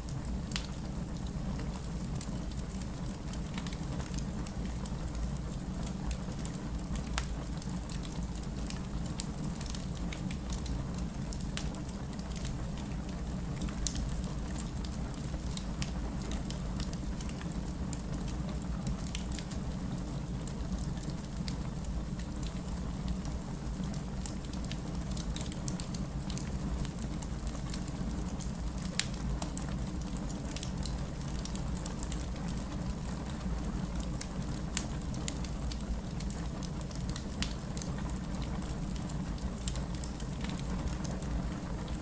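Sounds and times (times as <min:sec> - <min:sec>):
wood fire crackling: 0:00.1 - 0:42.0.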